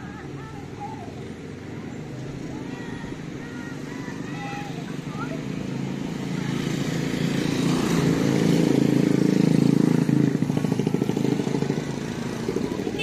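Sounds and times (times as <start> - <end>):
motorcycle engine running: 0.5 - 13.0.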